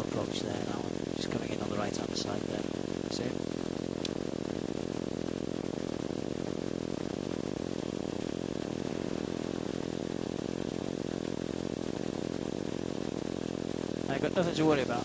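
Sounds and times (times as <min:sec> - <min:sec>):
microlight engine idling: 0:00.0 - 0:15.0.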